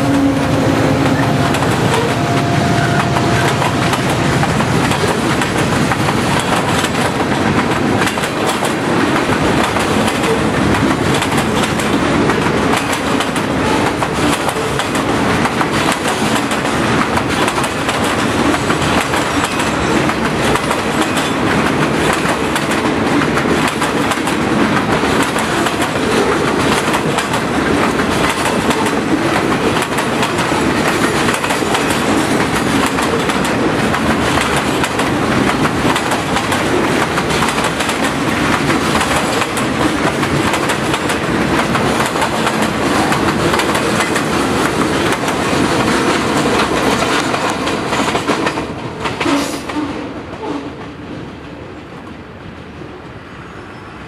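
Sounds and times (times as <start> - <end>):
train wheels rumbling on rails: 0.0 - 53.8
clickety-clack over rail joints: 1.4 - 52.2.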